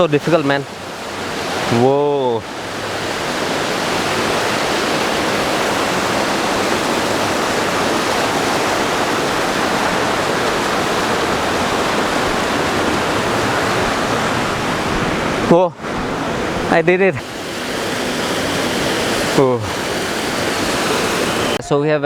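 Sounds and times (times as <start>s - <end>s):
mountain water rushing: 0.0s - 21.6s.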